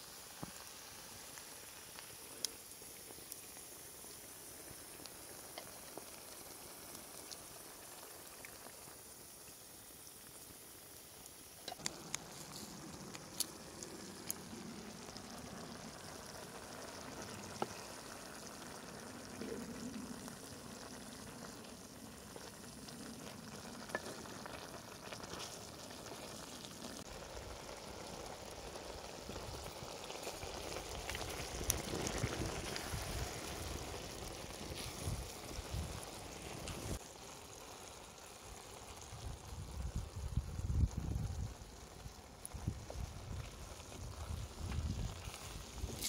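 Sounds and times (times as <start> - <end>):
risotto simmering and sizzling: 0.0 - 46.0.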